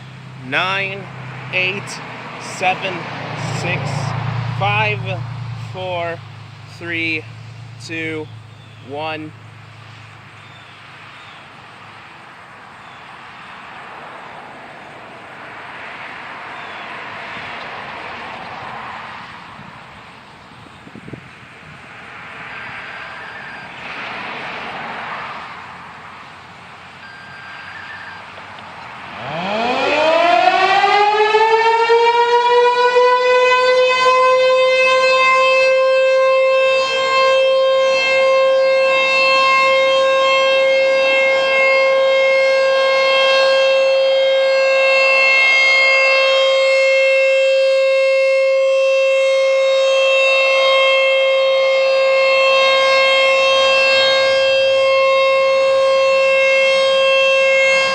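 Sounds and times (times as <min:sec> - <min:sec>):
warning siren rising to steady tone: 0:00.0 - 0:57.9.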